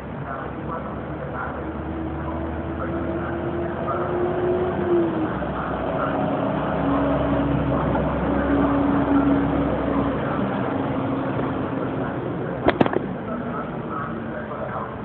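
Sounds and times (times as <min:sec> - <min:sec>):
traffic noise: 0:00.0 - 0:15.0
vehicle engines rumbling: 0:00.0 - 0:15.0.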